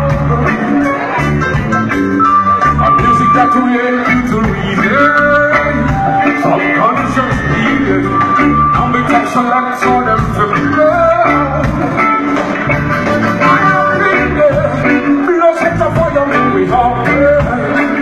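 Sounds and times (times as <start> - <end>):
person singing: 0.0 - 2.0, 2.6 - 18.0
band playing: 0.0 - 18.0
bass and drums beat: 0.0 - 18.0.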